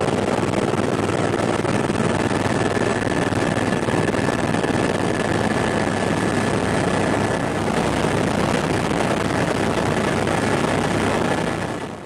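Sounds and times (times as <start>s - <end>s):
helicopter engine and rotor noise: 0.0s - 12.0s.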